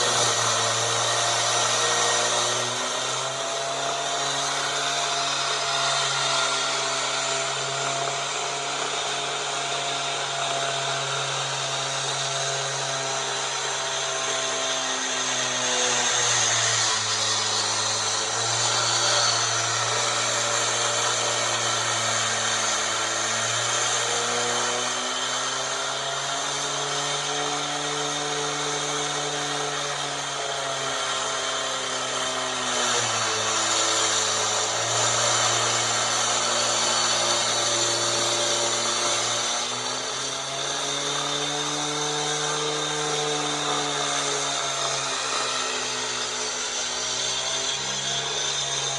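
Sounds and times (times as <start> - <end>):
power saw cutting concrete: 0.0 - 48.9.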